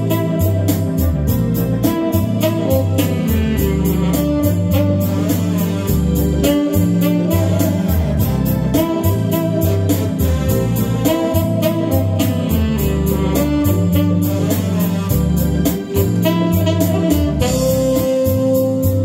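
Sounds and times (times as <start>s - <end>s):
backing track with guitar and drums: 0.0s - 19.0s
tenor saxophone melody: 0.0s - 19.0s.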